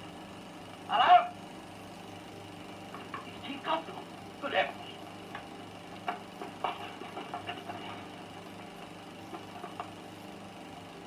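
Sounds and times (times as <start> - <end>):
film soundtrack hum and hiss: 0.0 - 11.0.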